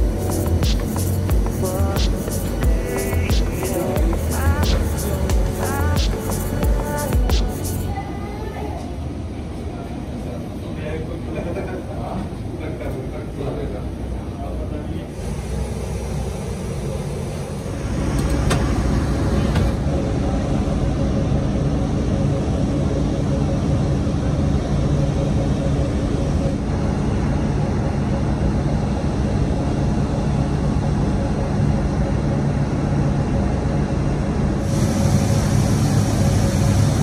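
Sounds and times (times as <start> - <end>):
low mechanical rumble: 0.0 - 37.0
steady hum: 0.0 - 37.0.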